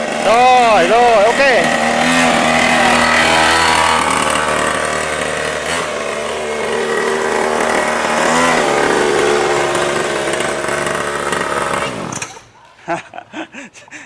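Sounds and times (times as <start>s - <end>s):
small two-stroke engine running: 0.0s - 12.6s.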